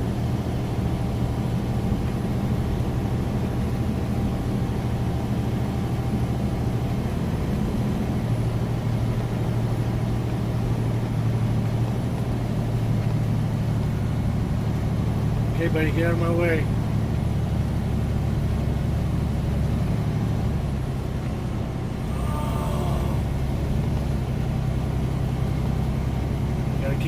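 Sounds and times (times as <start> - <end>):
diesel truck engine drone: 0.0 - 27.0.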